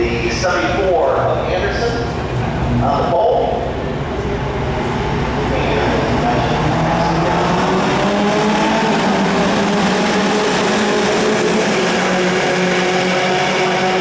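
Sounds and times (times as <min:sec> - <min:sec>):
race cars passing at speed: 0:00.0 - 0:14.0.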